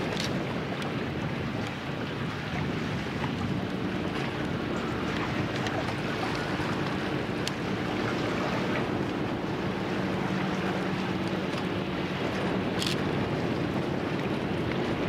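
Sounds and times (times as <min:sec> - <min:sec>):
rush of wind and water: 0:00.0 - 0:15.0.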